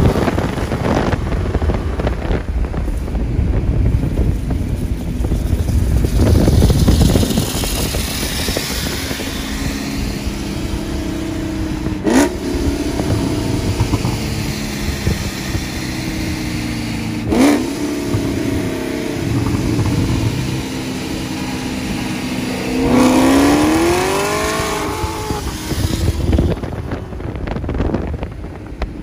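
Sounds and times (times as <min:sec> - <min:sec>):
performance car engines: 0:00.0 - 0:29.0
wind noise: 0:00.0 - 0:29.0.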